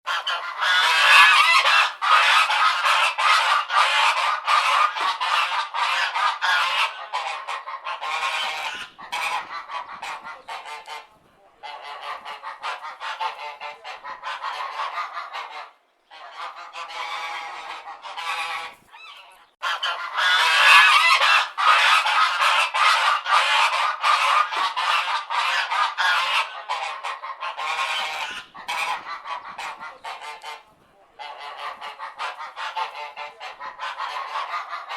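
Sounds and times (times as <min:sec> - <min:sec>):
geese honking: 0:00.1 - 0:34.9.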